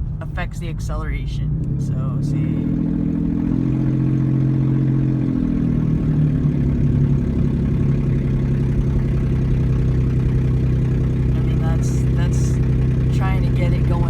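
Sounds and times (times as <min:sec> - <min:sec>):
loud low vehicle drone: 0:00.0 - 0:14.0.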